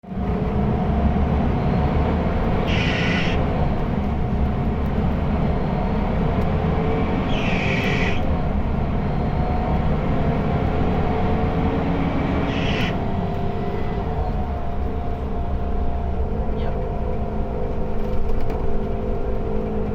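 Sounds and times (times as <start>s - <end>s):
bus diesel engine rumble: 0.0s - 19.9s.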